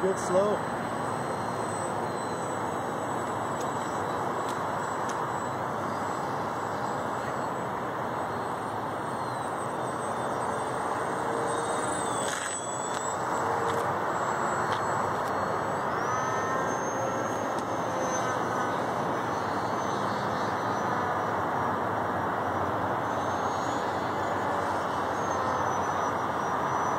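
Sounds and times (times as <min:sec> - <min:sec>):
electric motor whine: 0:00.0 - 0:26.9.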